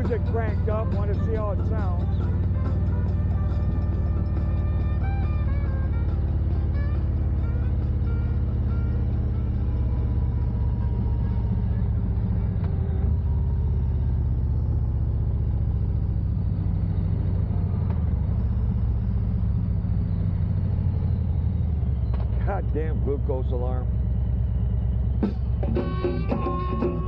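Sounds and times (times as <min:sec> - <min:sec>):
vehicle engine running steadily: 0:00.0 - 0:27.0.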